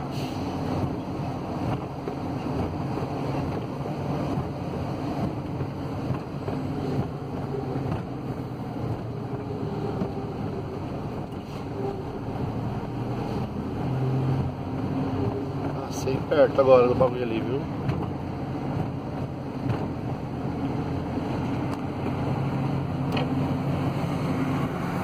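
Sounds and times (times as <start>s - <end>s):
diesel engine drone: 0.0s - 25.0s
road noise: 0.0s - 25.0s.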